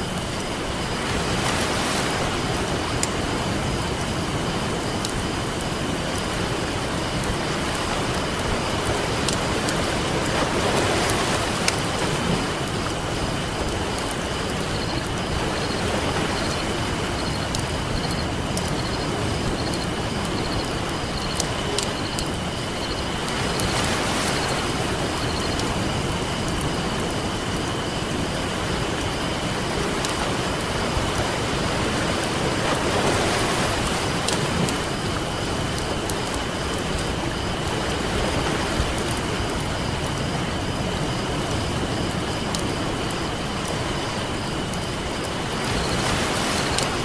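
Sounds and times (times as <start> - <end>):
campfire crackling: 0.0 - 47.0
ocean surf: 0.0 - 47.0.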